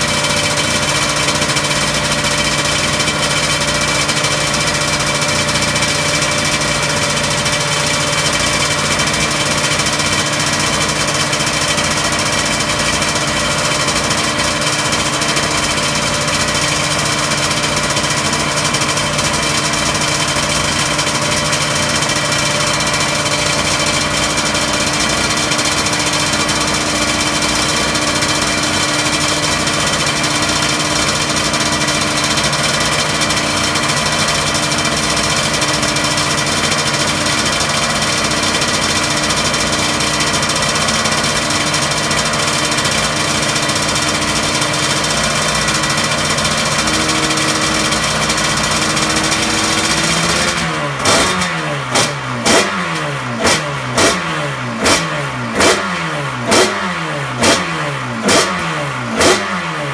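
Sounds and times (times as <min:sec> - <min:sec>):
racing engine idling: 0:00.0 - 0:59.9.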